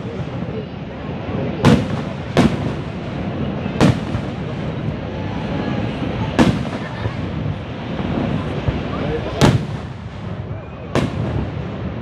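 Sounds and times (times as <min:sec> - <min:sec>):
fireworks booms: 0:00.0 - 0:12.0
steady low rumble: 0:00.0 - 0:12.0.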